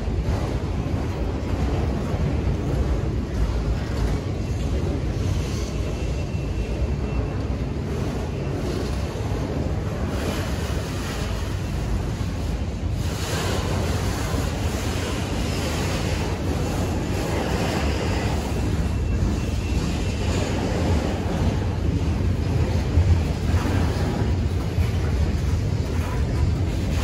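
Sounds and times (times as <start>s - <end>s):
steel train wheels rumbling on rail: 0.0s - 27.0s
wind buffeting microphone: 0.0s - 27.0s.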